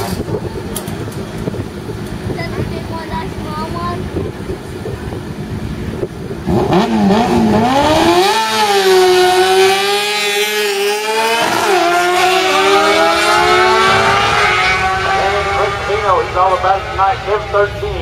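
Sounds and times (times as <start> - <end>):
motorcycles accelerating hard: 0.0 - 18.0.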